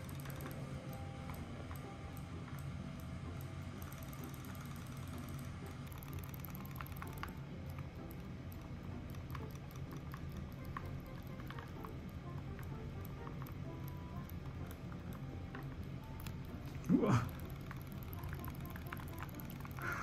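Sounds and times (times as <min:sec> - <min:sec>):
low motor buzz with ticking: 0:00.0 - 0:20.0.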